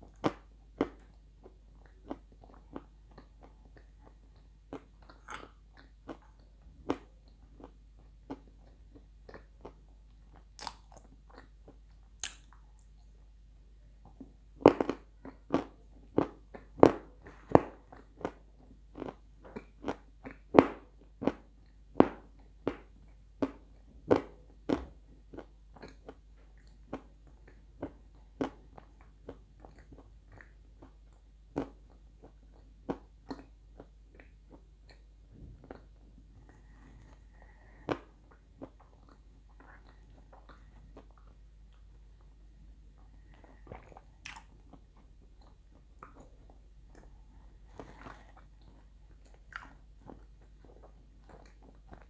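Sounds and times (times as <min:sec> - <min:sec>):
chewing and crunching clay: 0:00.0 - 0:13.3, 0:14.0 - 0:52.0.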